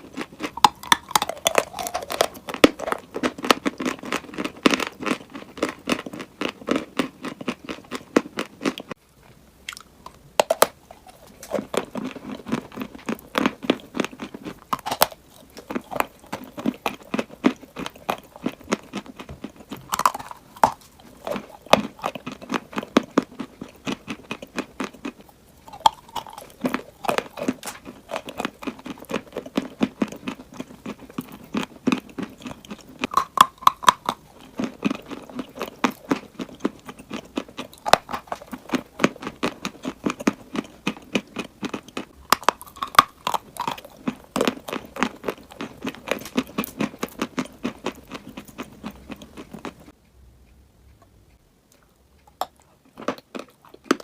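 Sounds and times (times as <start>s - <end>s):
chewing crunchy chalk: 0.0s - 9.0s, 9.7s - 50.0s.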